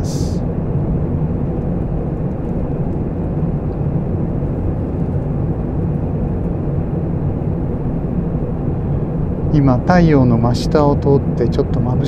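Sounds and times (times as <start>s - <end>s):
jet airliner rumbling overhead: 0.0s - 12.0s.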